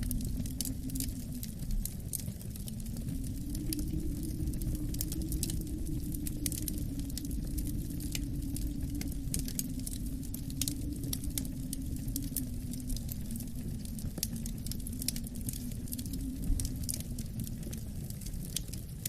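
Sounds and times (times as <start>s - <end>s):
low rumble of wind: 0.0s - 19.0s
wood fire crackling: 0.0s - 19.0s.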